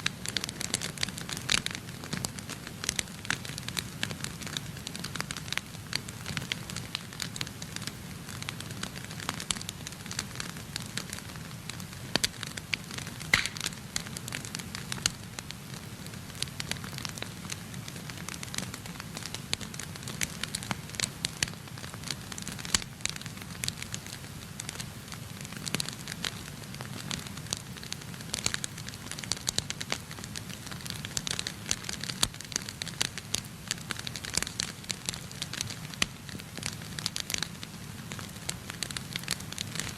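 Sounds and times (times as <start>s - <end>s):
wood fire crackling: 0.0s - 39.9s
low rumble of flames: 0.1s - 39.9s
sharp pops and snaps: 0.1s - 39.9s.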